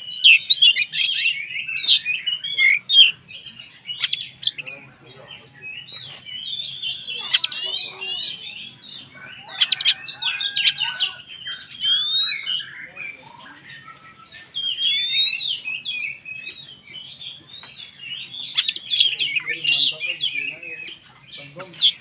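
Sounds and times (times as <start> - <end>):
bird singing chirps and whistles: 0.0 - 22.0.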